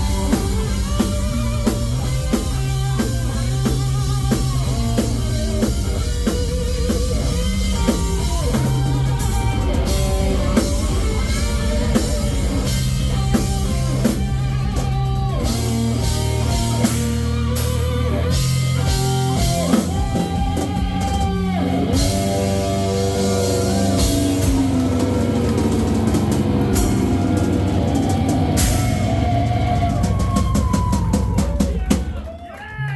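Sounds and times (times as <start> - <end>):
melodic guitar lines bending: 0.0 - 31.7
metal band playing loud: 0.0 - 32.9
pounding drum kit: 0.0 - 32.9.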